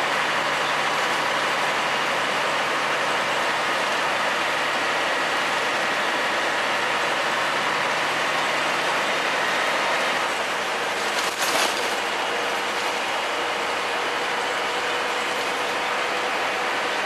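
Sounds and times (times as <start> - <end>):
bus diesel engine idling: 0.0 - 17.0.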